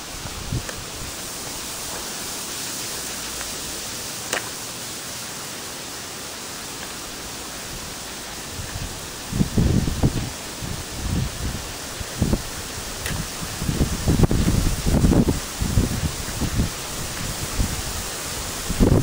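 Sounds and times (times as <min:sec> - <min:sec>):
floodwater rushing across road: 0:00.0 - 0:19.0.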